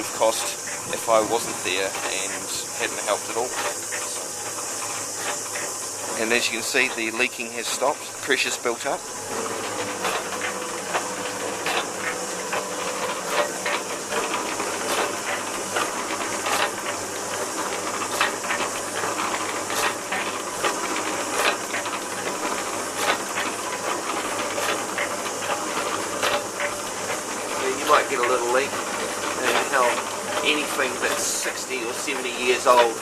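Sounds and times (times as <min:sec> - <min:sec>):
pump clanking knock: 0:00.0 - 0:33.0
pump hissing: 0:00.0 - 0:33.0.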